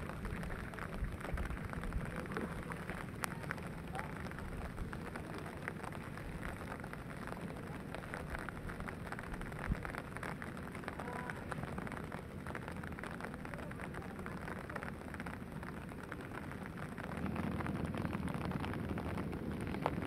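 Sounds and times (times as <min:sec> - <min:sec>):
low rumble: 0:00.0 - 0:20.0
rain on water and grass: 0:00.0 - 0:20.0.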